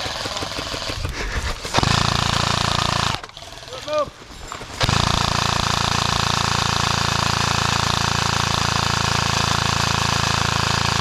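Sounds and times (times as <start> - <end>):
airsoft gun full-auto rattle: 0.0 - 11.0.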